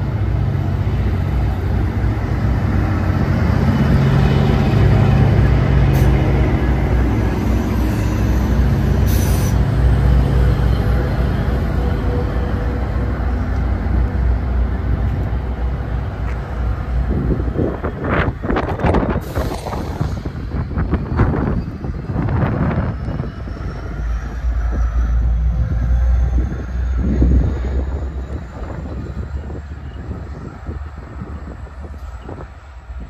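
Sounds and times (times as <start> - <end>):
diesel locomotive engine rumble: 0.0 - 33.0.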